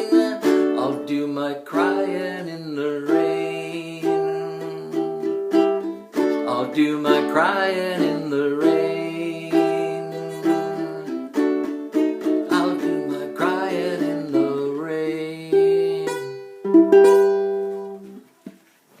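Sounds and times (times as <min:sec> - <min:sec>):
plucked acoustic string instrument: 0:00.0 - 0:18.6.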